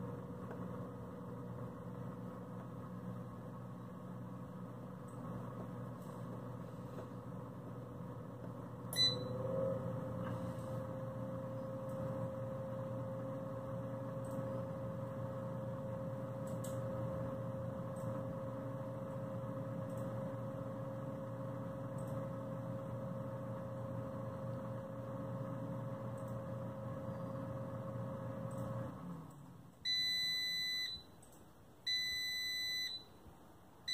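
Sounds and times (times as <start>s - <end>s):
convection fan humming: 0.0s - 33.9s.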